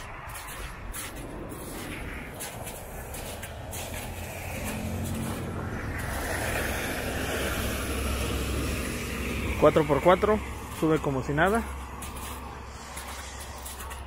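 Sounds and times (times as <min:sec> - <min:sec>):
truck engine hum: 0:00.0 - 0:14.0
tyres swishing in slush: 0:00.0 - 0:14.0.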